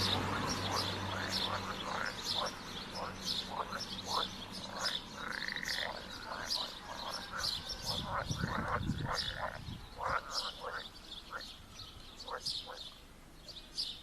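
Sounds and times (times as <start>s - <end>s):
frogs croaking: 0.0s - 13.0s
birds calling: 0.0s - 14.0s.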